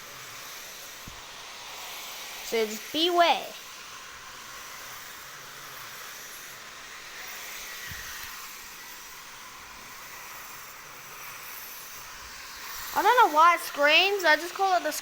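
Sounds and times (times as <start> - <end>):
toy train motor screaming hiss: 0.0 - 15.0.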